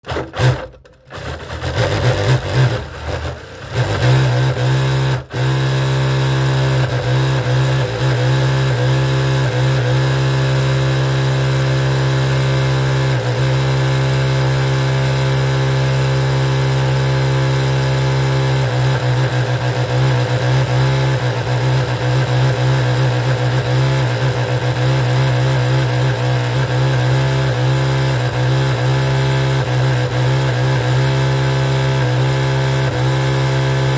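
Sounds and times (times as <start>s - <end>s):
sewing machine stitching: 0.0s - 33.9s.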